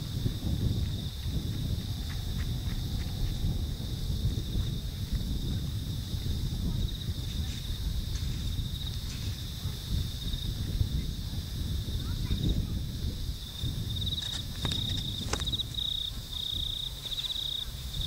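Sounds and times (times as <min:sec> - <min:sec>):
crickets chirping: 0:00.0 - 0:18.0
steady low rumble: 0:00.0 - 0:18.0.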